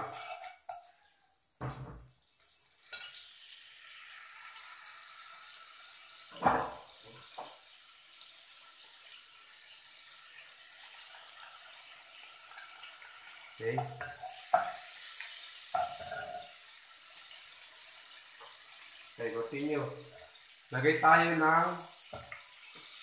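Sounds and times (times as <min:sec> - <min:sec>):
margarine sizzling in a frying pan: 0:00.0 - 0:23.0.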